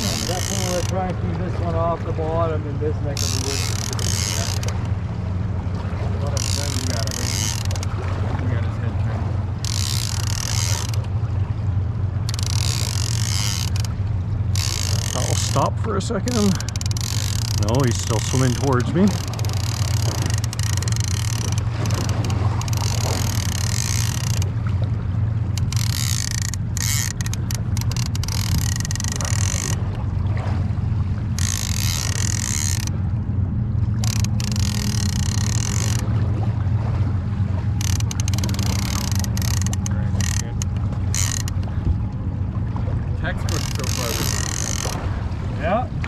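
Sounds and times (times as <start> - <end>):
fishing reel gears whirring: 0.0 - 5.1, 6.2 - 8.0, 9.4 - 30.0, 31.0 - 36.2, 37.2 - 42.1, 43.2 - 45.1
steady low hum: 0.0 - 46.0.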